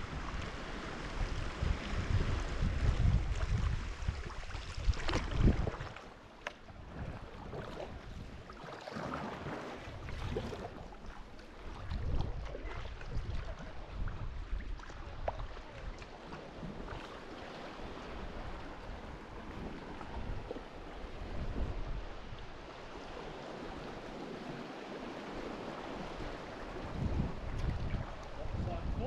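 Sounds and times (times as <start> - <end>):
wind buffeting microphone: 0.0 - 6.0, 6.7 - 8.6, 11.6 - 29.0
water splashing around kayak: 0.0 - 29.0.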